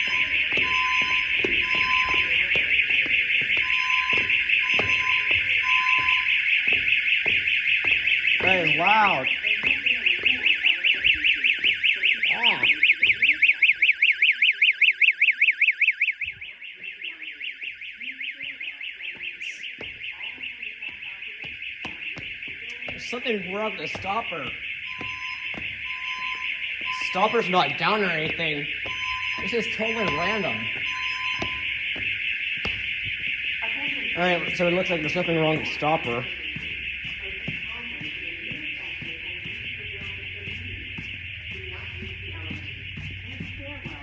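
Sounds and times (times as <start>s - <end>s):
fire alarm horn tone: 0.0s - 44.0s
low repeating alarm beep: 0.0s - 44.0s.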